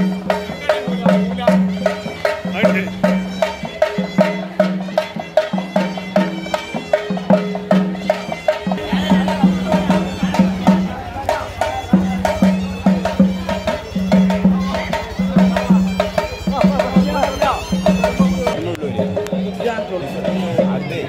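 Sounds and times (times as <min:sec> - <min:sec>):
droning wind instrument melody: 0:00.0 - 0:21.0
quick steady drum beat: 0:00.0 - 0:21.0.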